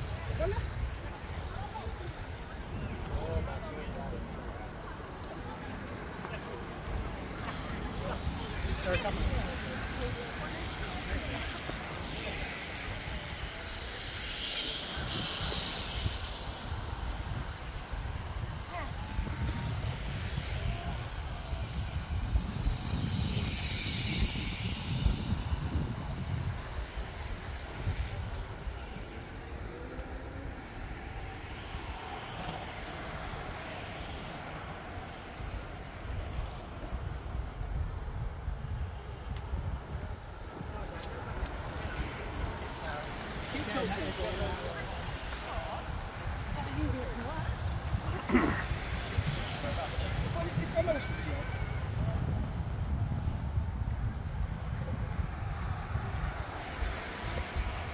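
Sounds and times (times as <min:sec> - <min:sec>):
bicycle tyres and freewheels hissing: 0:00.0 - 0:57.9
wind buffeting microphone: 0:00.0 - 0:57.9.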